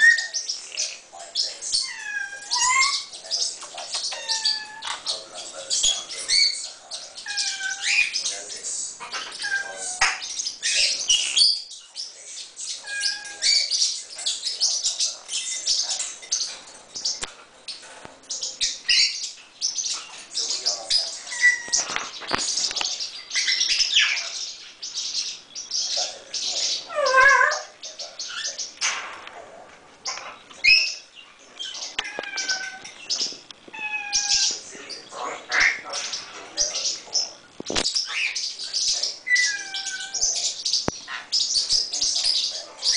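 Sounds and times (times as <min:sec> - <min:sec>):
parrots chirping: 0:00.0 - 0:42.9.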